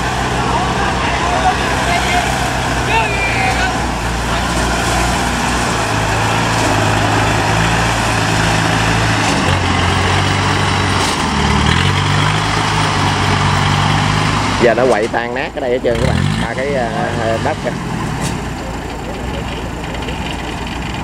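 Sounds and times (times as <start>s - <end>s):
heavy engines running under load: 0.0s - 21.0s.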